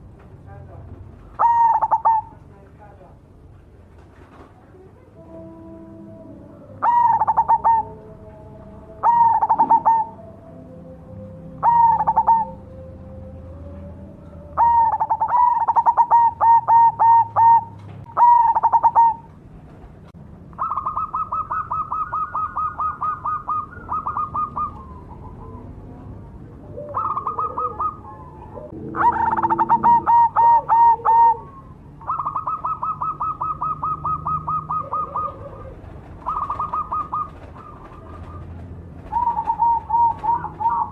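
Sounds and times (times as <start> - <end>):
dove cooing: 1.2 - 2.4, 4.7 - 19.4, 20.5 - 40.9.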